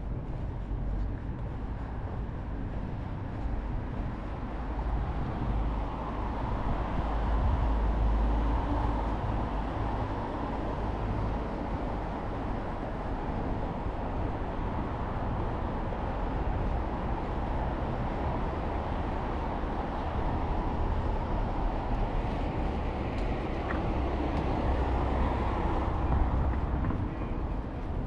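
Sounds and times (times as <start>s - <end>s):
street noise: 0.0s - 28.0s.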